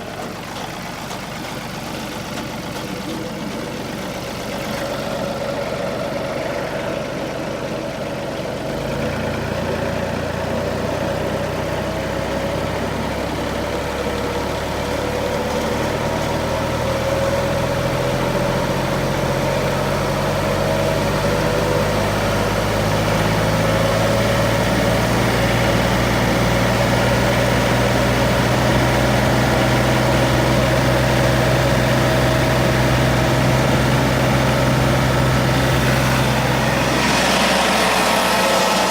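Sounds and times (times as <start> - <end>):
tractor diesel engine running: 0.0 - 38.9
wood chipper: 0.0 - 38.9
deeper engine note: 4.7 - 38.9.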